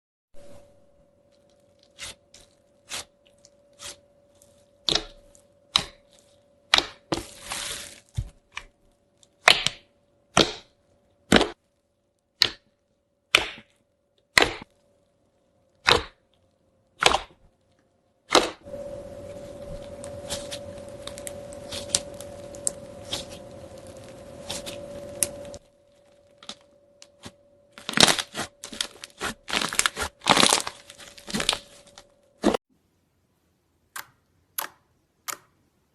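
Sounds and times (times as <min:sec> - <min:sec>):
faint steady hum: 0:00.4 - 0:35.9.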